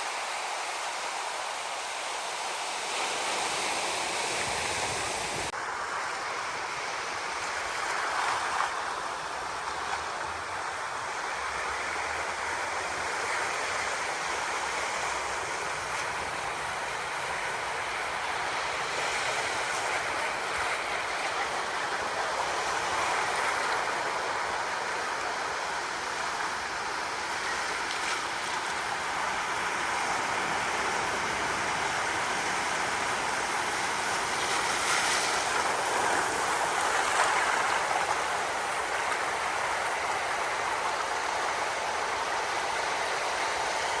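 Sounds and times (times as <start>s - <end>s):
ocean surf washing: 0.0s - 44.0s.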